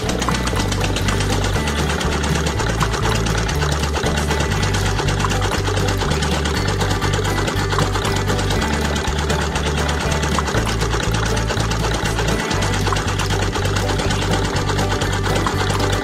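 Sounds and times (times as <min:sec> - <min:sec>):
low stepping tones: 0:00.0 - 0:16.0
model engine clattering: 0:00.0 - 0:16.0.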